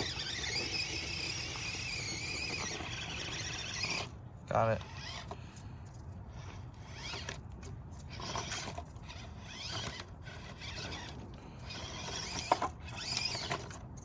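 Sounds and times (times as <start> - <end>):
toy car electric motor whining: 0.0 - 5.6, 6.3 - 14.0.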